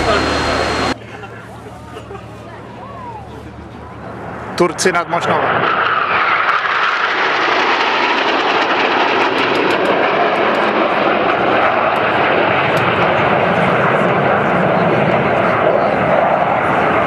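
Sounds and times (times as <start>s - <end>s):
jet fighters roaring past: 0.0s - 1.7s, 2.3s - 17.0s.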